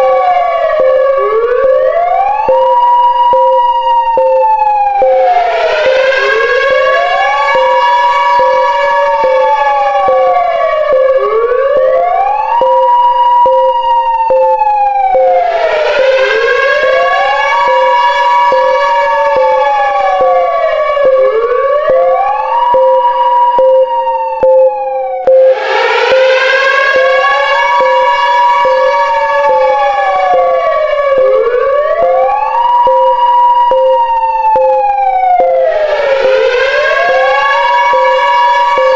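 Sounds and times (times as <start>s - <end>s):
pulsing low tone: 0.0s - 38.9s
wailing warning siren: 0.0s - 38.9s.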